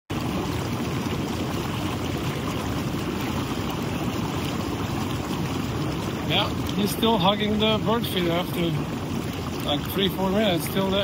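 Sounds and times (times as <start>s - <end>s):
hot tub jets bubbling water: 0.1s - 11.0s.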